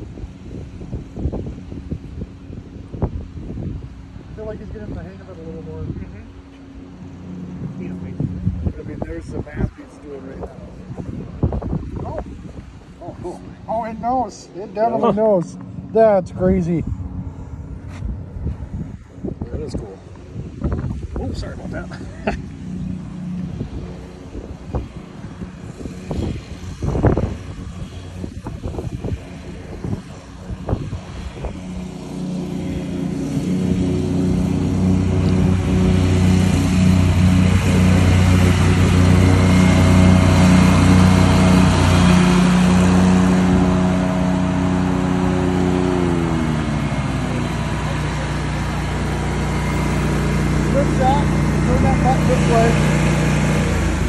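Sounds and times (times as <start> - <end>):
mower engine running: 0.0 - 18.4, 19.8 - 54.0.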